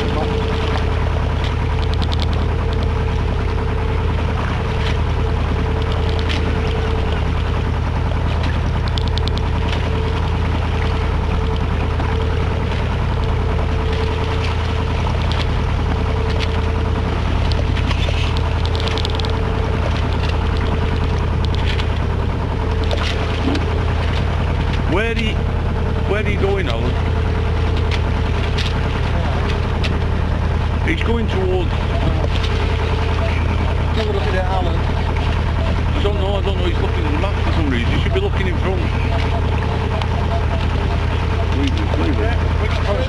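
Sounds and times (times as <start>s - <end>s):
diesel engine running steadily: 0.0s - 43.0s.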